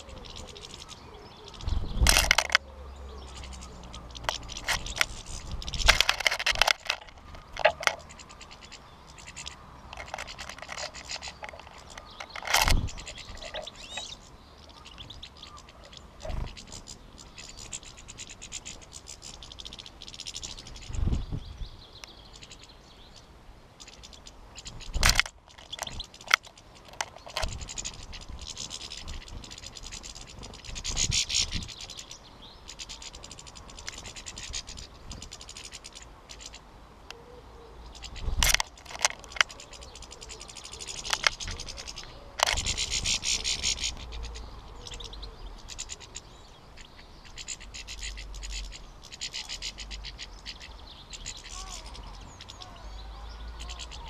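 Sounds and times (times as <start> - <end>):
finches twittering in buzzy trills: 0.0 - 54.0.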